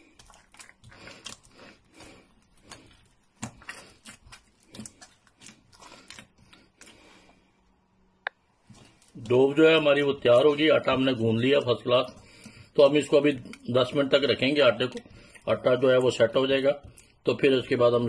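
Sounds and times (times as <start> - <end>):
hands kneading dough in bowl: 0.0 - 18.0.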